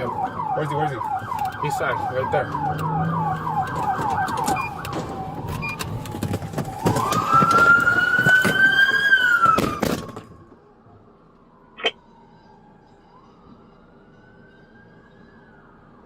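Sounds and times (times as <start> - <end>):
police siren wailing: 0.0 - 16.0
vehicle rumble: 0.0 - 16.0.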